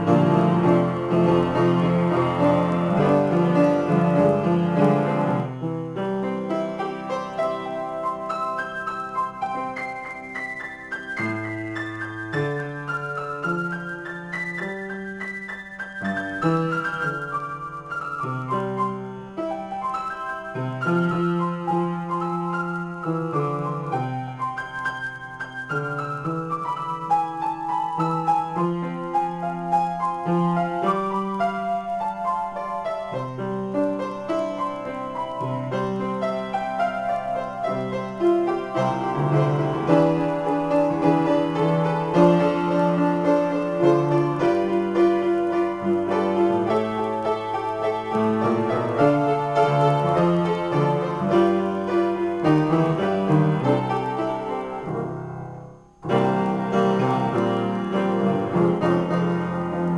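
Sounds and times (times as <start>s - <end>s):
solo piano improvisation: 0.0s - 59.9s.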